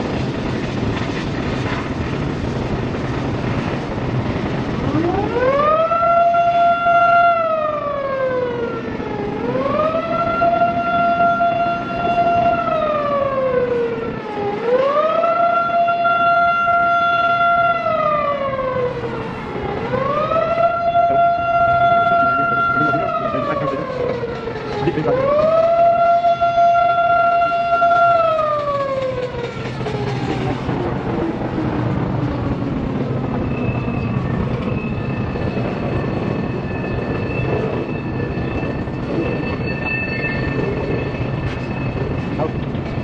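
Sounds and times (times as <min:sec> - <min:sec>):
low rumble of a train: 0:00.0 - 0:43.0
siren wailing: 0:02.8 - 0:43.0.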